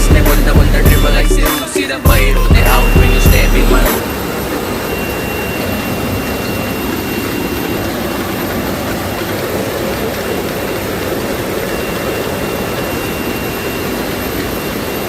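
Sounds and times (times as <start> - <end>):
bottling line machine noise: 0.0 - 15.0
faint high whine: 0.0 - 15.0.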